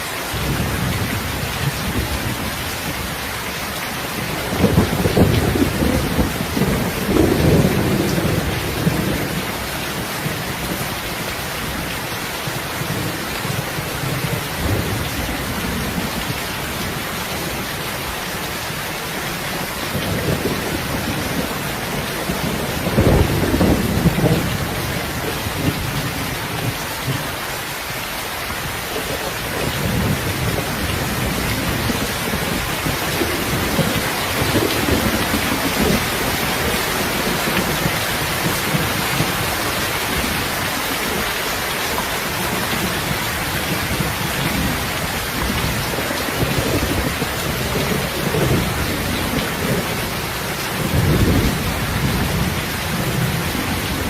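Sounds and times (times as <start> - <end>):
steady rain falling: 0.0 - 54.0
thunder rumbling: 0.3 - 27.4, 28.6 - 54.0.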